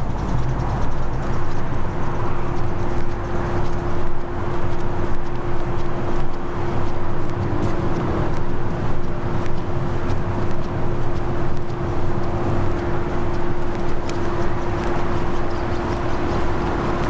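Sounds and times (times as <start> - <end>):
engine humming: 0.0 - 17.0
faint ticks: 0.0 - 17.0.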